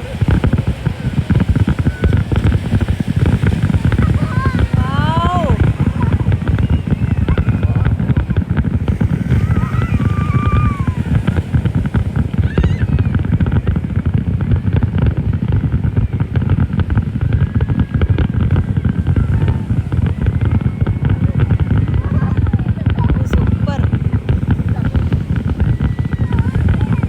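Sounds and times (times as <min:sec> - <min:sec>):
fireworks bangs and crackles: 0:00.0 - 0:27.0
people's voices: 0:00.0 - 0:27.0.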